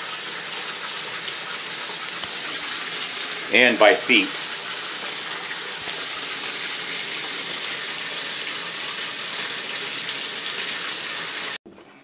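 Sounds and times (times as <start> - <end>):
tap water running into bathtub: 0.0 - 11.9.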